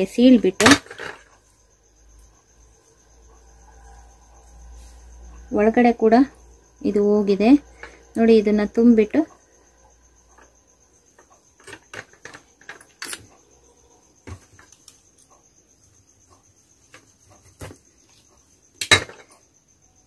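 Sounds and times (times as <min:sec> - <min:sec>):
cricket trill: 0:00.0 - 0:20.0.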